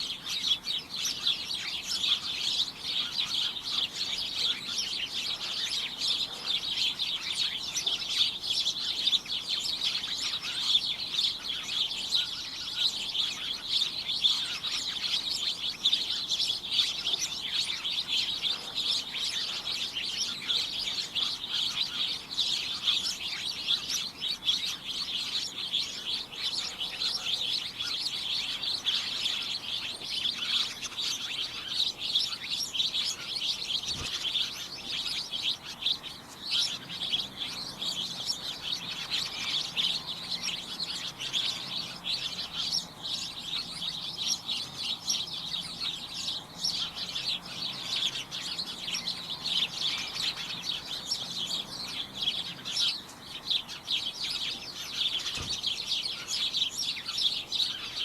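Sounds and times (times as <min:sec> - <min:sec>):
small birds chirping and tweeting: 0:00.0 - 0:58.0.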